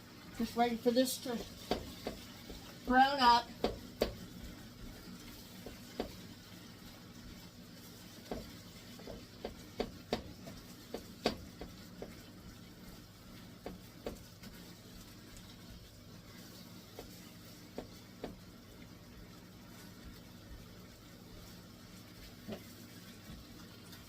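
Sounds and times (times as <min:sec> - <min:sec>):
meat sizzling in a pan: 0:00.0 - 0:24.0.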